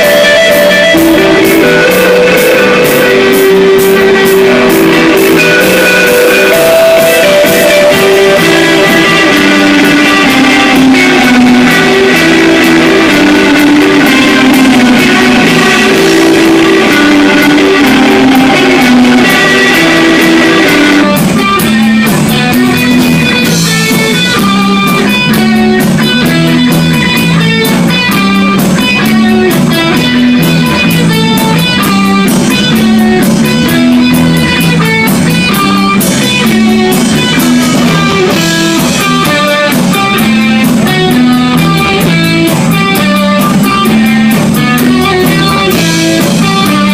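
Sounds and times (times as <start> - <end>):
bass guitar: 0.0 - 46.9
drums: 0.0 - 46.9
electric guitars: 0.0 - 46.9.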